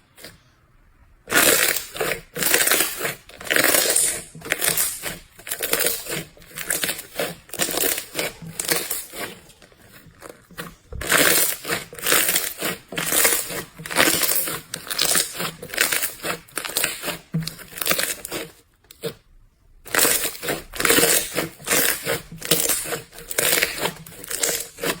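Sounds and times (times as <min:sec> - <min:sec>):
slime squishing by hand: 0:00.0 - 0:25.0.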